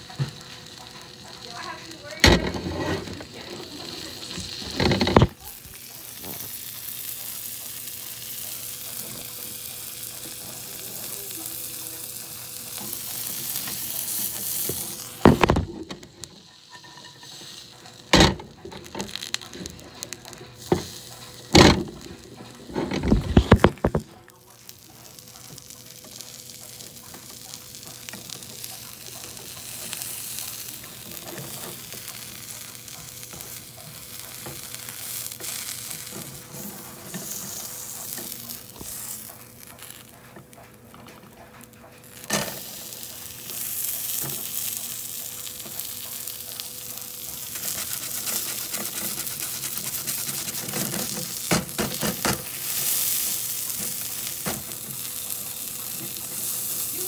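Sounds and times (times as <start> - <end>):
sandwich sizzling in a pan: 0.0 - 57.0.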